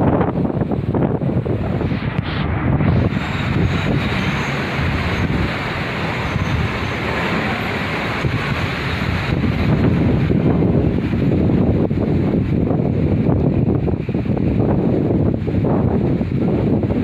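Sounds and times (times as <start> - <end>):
heavy rain hiss: 0.0 - 17.0
wind buffeting microphone: 0.0 - 17.0.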